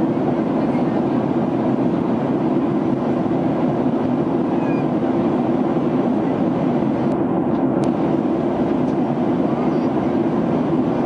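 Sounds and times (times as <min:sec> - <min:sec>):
jet engine drone: 0:00.0 - 0:11.0
rushing airflow: 0:00.0 - 0:11.0.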